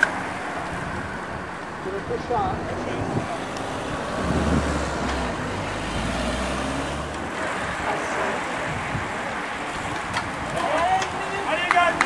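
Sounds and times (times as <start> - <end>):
vehicle engine humming: 0.0 - 12.0
wind and road noise: 0.0 - 12.0.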